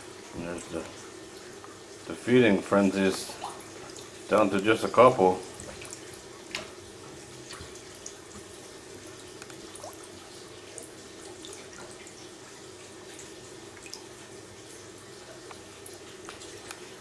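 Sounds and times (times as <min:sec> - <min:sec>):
small drips and splashes: 0:00.0 - 0:17.0
water trickling: 0:00.0 - 0:17.0.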